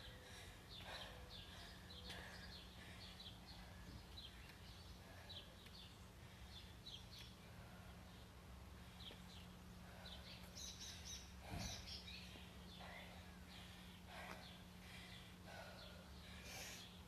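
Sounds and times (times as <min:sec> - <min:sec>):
faint birds chirping: 0:00.0 - 0:17.0
steady low hum: 0:00.0 - 0:17.0.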